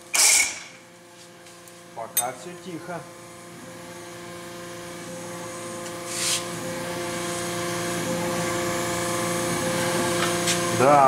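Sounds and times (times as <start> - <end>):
steady mechanical whine: 0.0 - 11.0.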